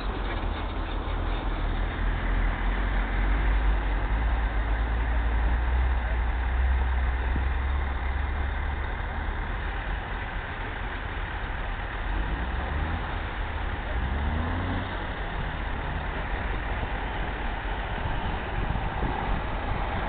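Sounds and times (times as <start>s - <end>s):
dense mechanical noise: 0.0s - 20.0s
engine rumble: 0.0s - 20.0s.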